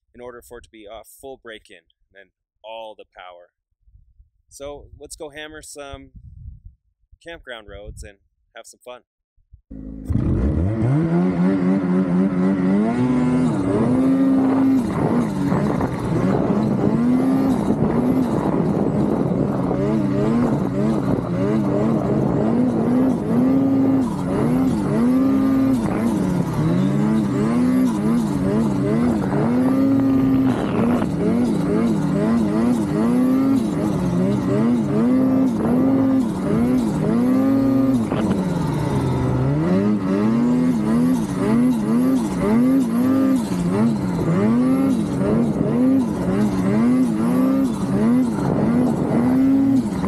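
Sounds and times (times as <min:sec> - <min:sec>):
snowmobile engine revving: 0:09.7 - 0:50.0.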